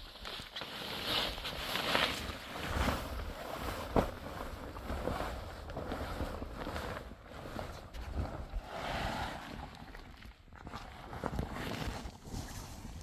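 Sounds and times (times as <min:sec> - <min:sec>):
canvas tent cover flapping: 0:00.0 - 0:13.0.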